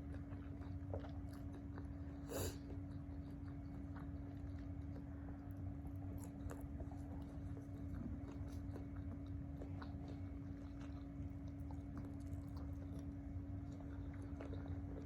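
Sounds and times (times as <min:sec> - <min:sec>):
person chewing and biting food: 0:00.0 - 0:15.0
steady low hum: 0:00.0 - 0:15.0.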